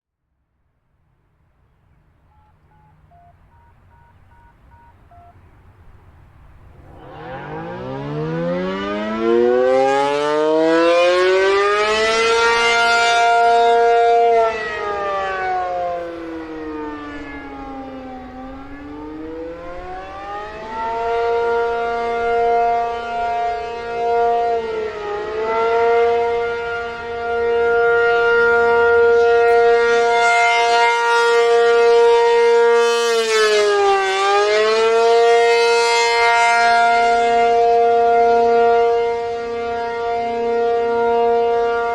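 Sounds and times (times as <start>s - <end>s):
outdoor warning siren wailing: 1.9s - 41.9s.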